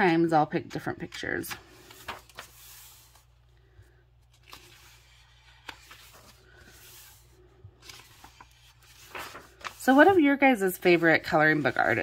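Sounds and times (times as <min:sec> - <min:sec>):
paper pages turning: 0:00.6 - 0:03.6, 0:04.2 - 0:12.0.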